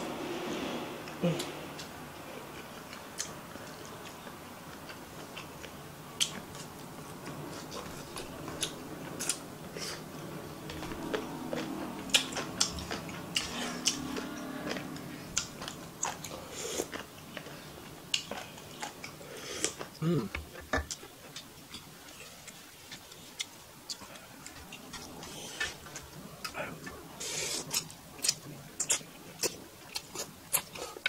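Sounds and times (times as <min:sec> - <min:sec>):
person chewing noodles: 0:01.3 - 0:31.0.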